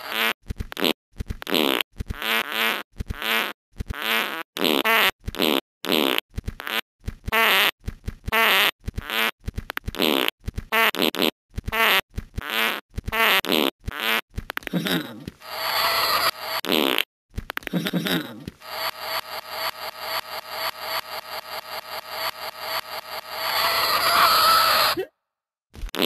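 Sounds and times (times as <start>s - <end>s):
cartoon fart sounds: 0.0s - 25.1s, 25.8s - 26.0s.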